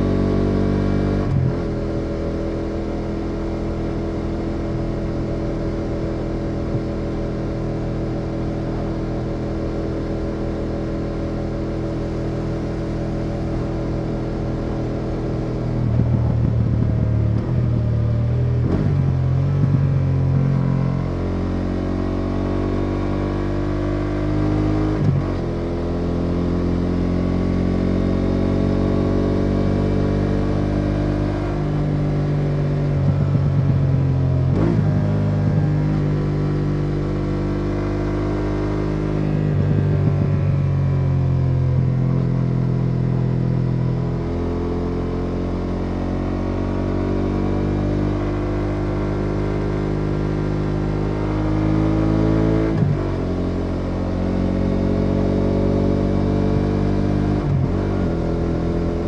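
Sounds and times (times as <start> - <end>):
motorcycle engine running: 0.0 - 22.8, 23.8 - 59.0.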